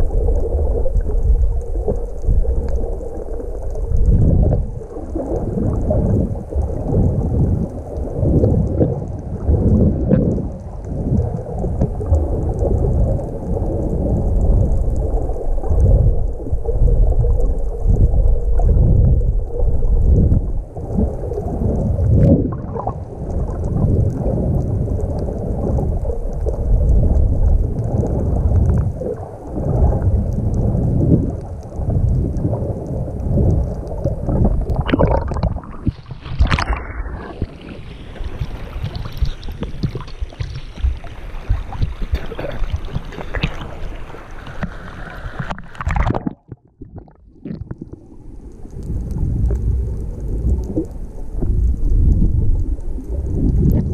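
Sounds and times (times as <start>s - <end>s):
muffled underwater water rumble: 0.0s - 53.9s.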